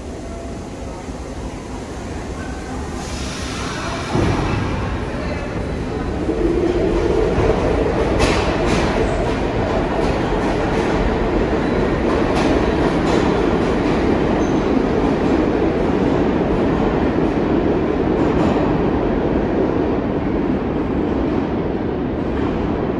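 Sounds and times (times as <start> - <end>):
subway train rumbling past: 0.0 - 22.9.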